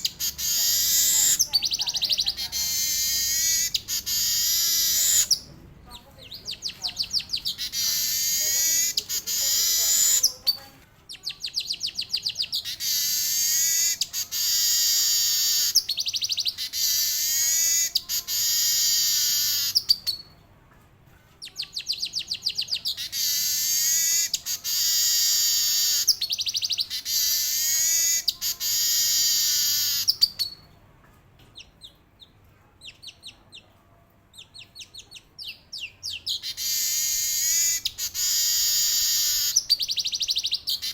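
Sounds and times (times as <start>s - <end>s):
bird singing buzzy trills: 0.0s - 20.3s, 21.6s - 30.7s, 34.4s - 40.9s.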